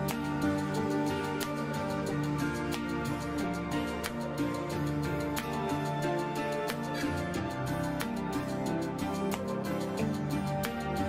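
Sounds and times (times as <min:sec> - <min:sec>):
sustained instrumental music: 0:00.0 - 0:11.0.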